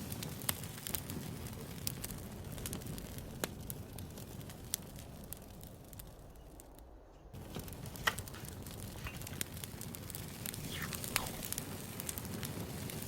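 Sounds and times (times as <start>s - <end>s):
campfire crackling: 0.0s - 13.0s
low steady hiss: 0.0s - 13.0s.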